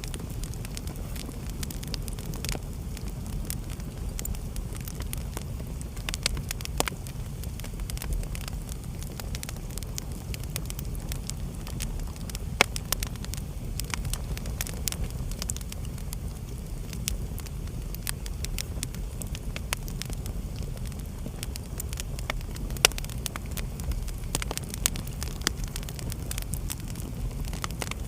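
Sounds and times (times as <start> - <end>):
wood fire burning: 0.0 - 28.0.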